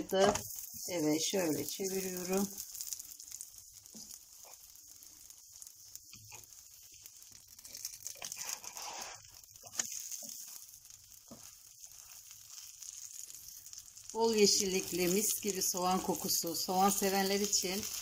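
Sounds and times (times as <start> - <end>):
bread sizzling in oil: 0.0 - 18.0.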